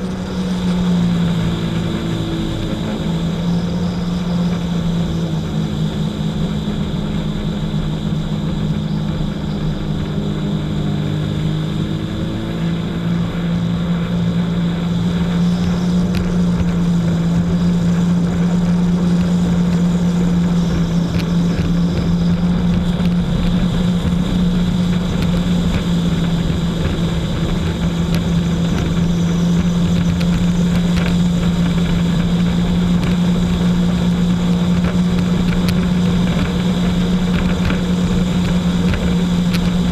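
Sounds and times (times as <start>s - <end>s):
jet ski engine drone: 0.0s - 39.9s.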